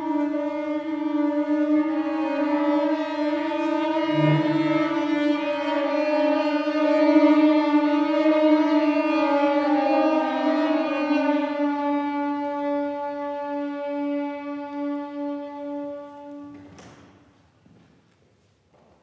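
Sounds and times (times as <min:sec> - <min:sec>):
winds and strings sustained notes: 0:00.0 - 0:16.1.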